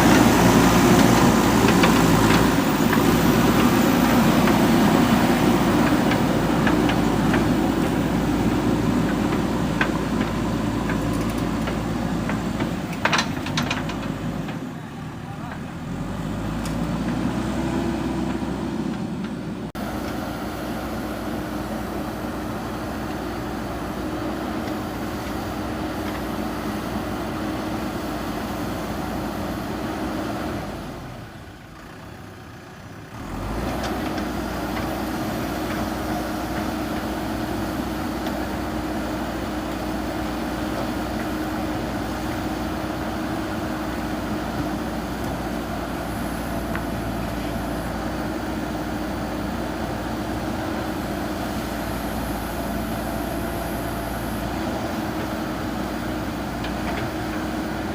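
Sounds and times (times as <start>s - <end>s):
backhoe diesel engine running: 0.0s - 57.9s.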